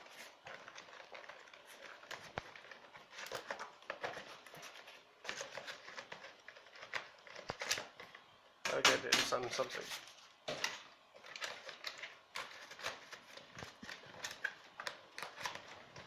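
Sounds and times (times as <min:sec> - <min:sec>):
packaging rustling: 0:00.0 - 0:16.0.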